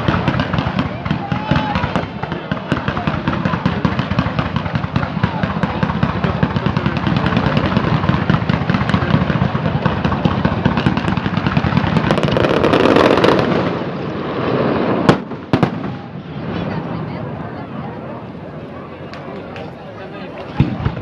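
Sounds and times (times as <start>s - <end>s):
fireworks crackling bangs: 0.0s - 17.7s, 19.1s - 21.0s.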